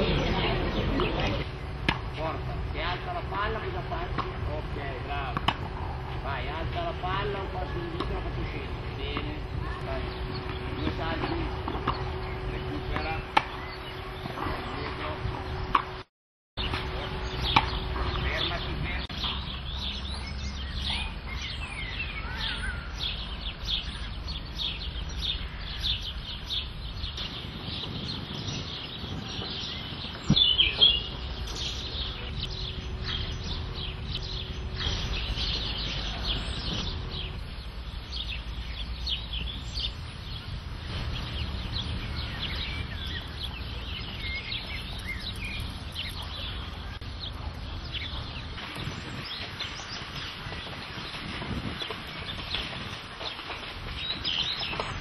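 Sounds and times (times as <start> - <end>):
small birds chirping: 0.0 - 55.0
steady low rumble: 0.0 - 55.0.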